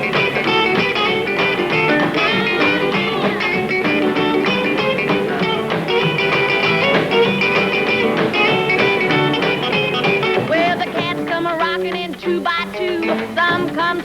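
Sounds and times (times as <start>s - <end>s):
lead guitar: 0.0s - 14.0s
rockabilly band playing: 0.0s - 14.0s.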